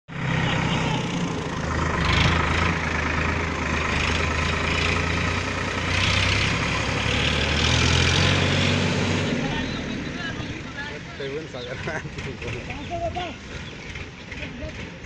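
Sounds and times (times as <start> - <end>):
low engine drone: 0.1 - 15.0.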